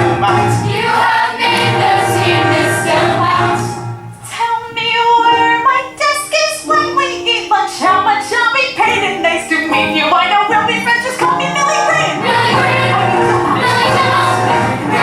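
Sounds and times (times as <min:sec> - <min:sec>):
group singing musical number: 0:00.0 - 0:15.0
musical accompaniment: 0:00.0 - 0:15.0.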